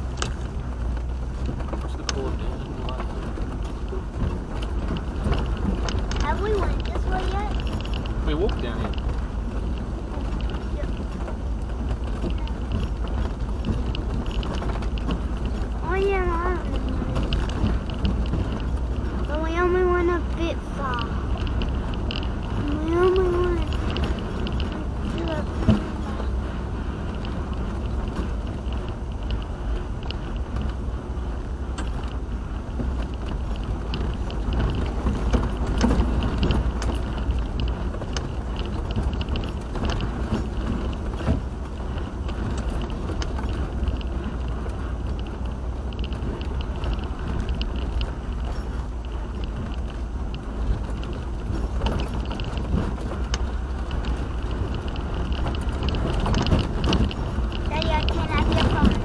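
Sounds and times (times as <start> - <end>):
light clicks and rattles: 0.0 - 59.0
road and engine rumble: 0.0 - 59.0.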